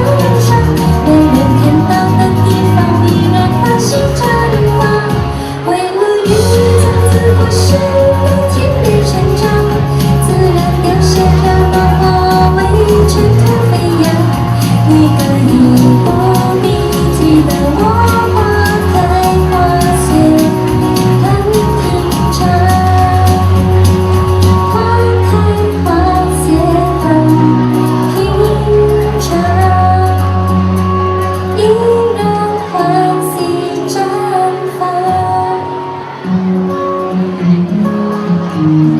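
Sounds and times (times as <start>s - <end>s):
pop song with singing: 0.0s - 38.9s.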